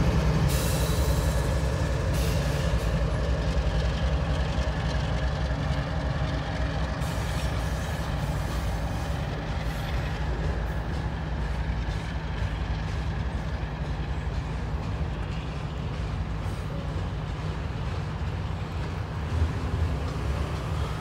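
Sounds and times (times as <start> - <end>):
diesel locomotive engine rumble: 0.0 - 21.0
freight cars rolling: 0.0 - 21.0.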